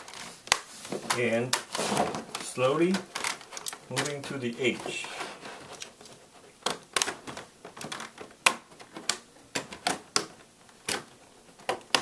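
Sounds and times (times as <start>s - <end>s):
plastic clips snapping: 0.0s - 4.4s, 6.6s - 12.0s.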